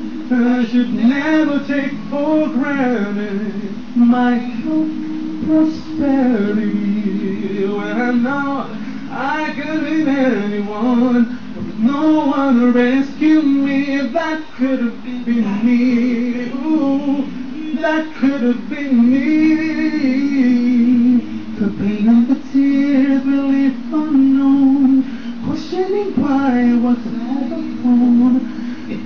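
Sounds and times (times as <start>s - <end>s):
a cappella vocal recording: 0.0s - 29.0s
man singing a hymn: 0.0s - 29.0s.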